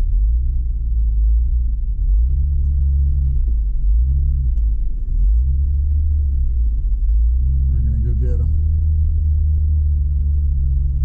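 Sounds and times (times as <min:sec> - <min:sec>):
engine rumbling low: 0:00.0 - 0:11.0.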